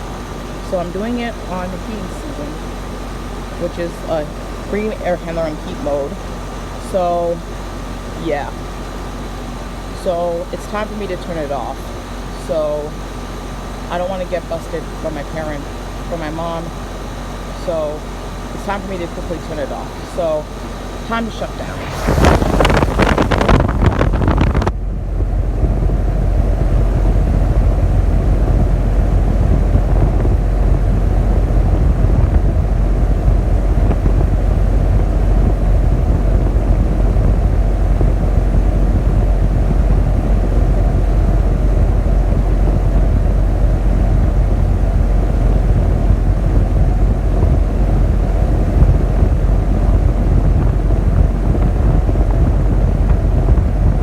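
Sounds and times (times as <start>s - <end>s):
air conditioner unit running: 0.0s - 54.0s.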